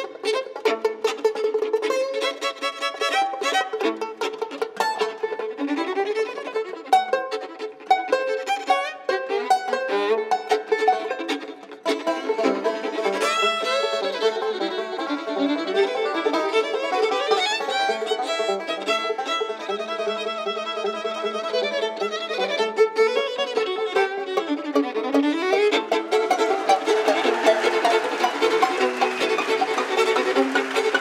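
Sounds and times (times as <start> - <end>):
bluegrass band playing: 0.0 - 31.0
fiddle melody with sliding notes: 0.0 - 31.0
plucked banjo: 0.0 - 31.0.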